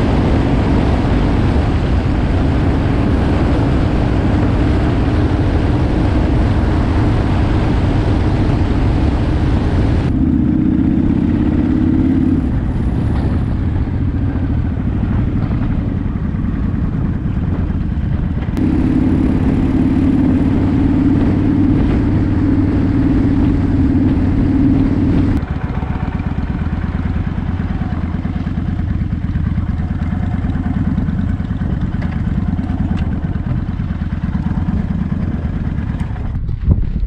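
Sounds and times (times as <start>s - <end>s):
motorcycle engine droning on the move: 0.0s - 37.0s
motorcycle engines idling: 0.0s - 37.0s.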